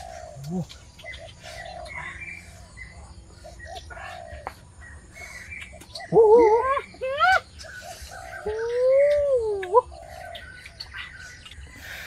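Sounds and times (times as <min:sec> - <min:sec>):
birds cooing: 0:00.0 - 0:12.0.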